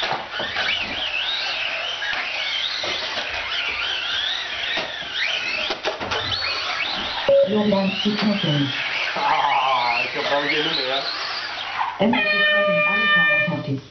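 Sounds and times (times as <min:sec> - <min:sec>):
rc trucks motor whine: 0:00.0 - 0:13.6.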